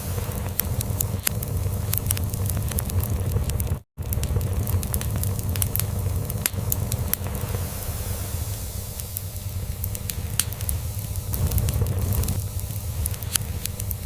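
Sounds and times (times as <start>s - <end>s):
crackling wood fire: 0.0s - 14.0s.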